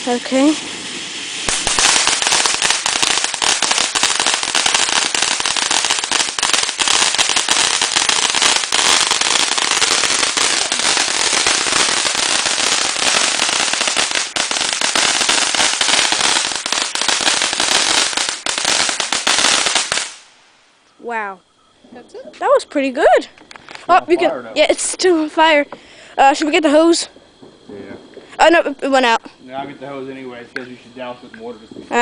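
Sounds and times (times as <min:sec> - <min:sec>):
firework crackling and hissing: 0:00.0 - 0:20.8, 0:22.7 - 0:32.0.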